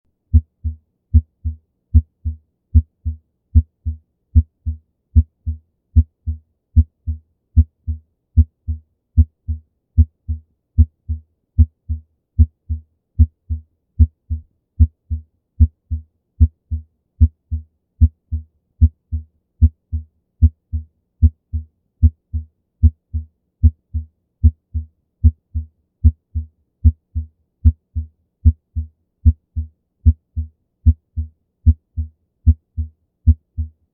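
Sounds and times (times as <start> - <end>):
heartbeat lub-dub: 0.3 - 33.8.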